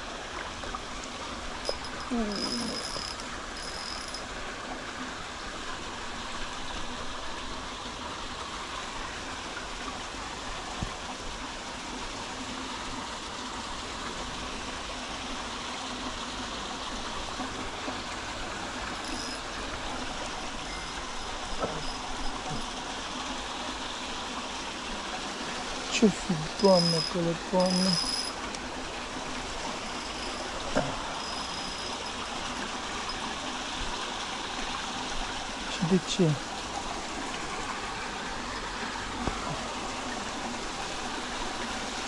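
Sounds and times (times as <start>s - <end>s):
stream running over stones: 0.0s - 42.0s.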